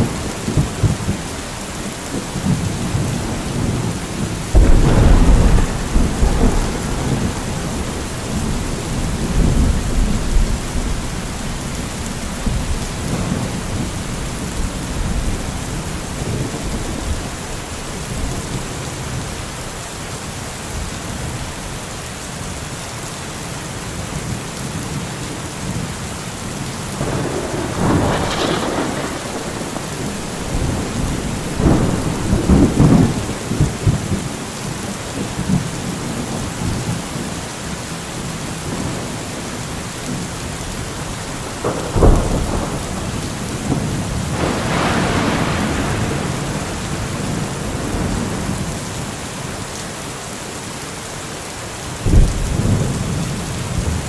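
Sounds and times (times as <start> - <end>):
thunder rumbling and cracking: 0.0 - 19.7, 26.8 - 37.3, 38.2 - 49.6, 52.0 - 54.0
heavy rain falling: 0.0 - 54.0.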